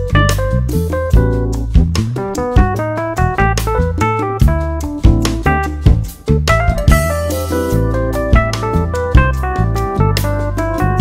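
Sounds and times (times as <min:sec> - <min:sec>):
instrumental music with drum beat: 0:00.0 - 0:11.0.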